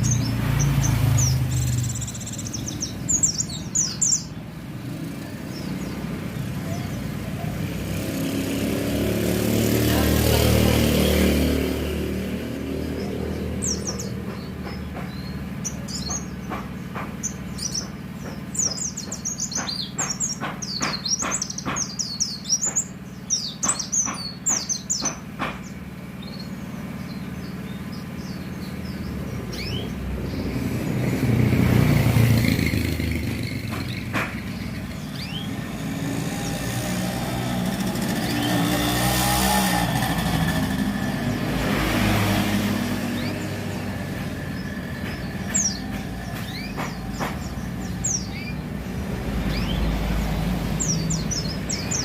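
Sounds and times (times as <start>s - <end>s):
bird chirping: 0.0s - 52.0s
road vehicles passing: 0.0s - 52.0s.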